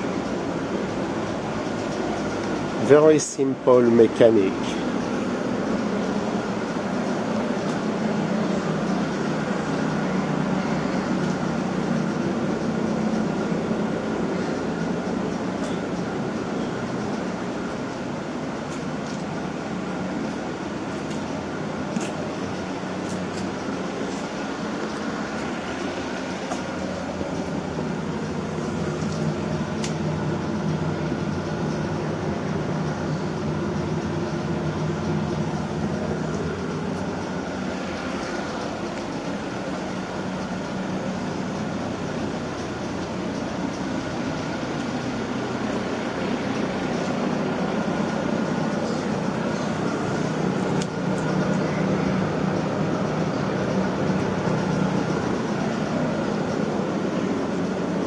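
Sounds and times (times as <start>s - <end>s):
high whine: 0.0s - 58.0s
low mechanical drone: 0.0s - 58.0s.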